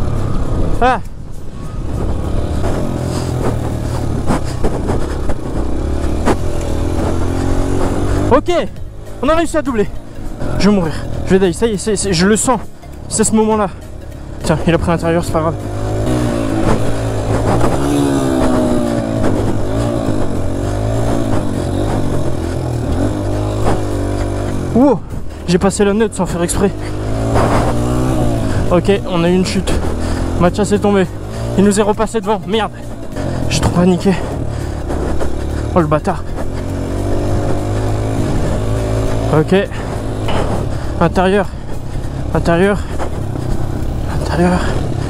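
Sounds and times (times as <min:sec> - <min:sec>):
dirt bike engine revving: 0:01.6 - 0:45.0.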